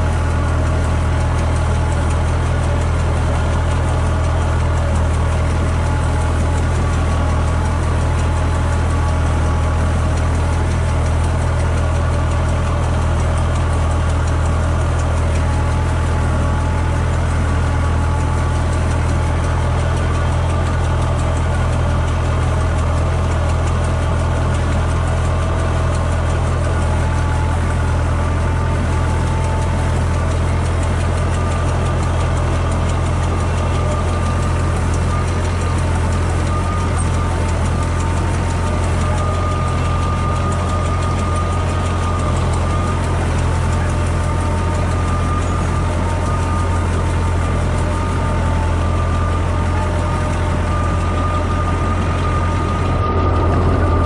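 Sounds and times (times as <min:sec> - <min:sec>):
sprayer whine: 0:00.0 - 0:54.0
tractor engine running: 0:00.0 - 0:54.0.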